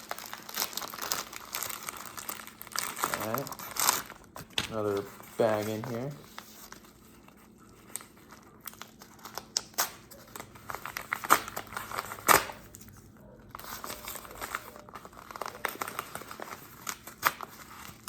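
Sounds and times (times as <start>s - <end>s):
packaging bag crinkling and tearing: 0.0s - 18.0s.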